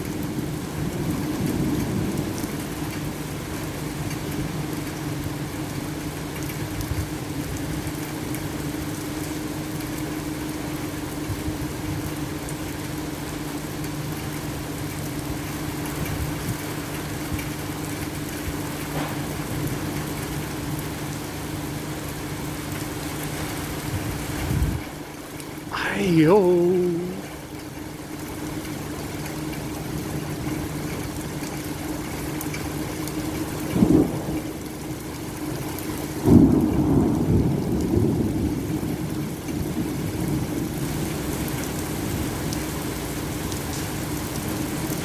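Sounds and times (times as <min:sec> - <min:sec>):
rain pouring: 0:00.0 - 0:45.0.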